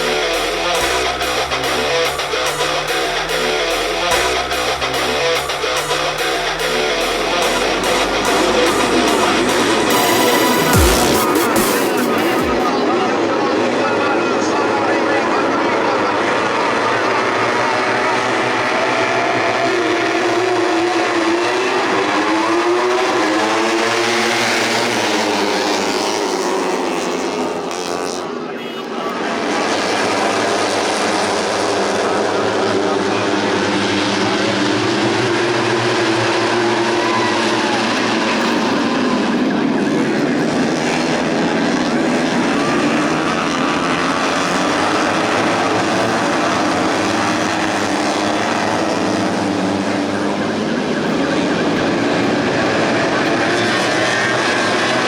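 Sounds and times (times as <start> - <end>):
racing motorcycles revving high: 0.0 - 55.0.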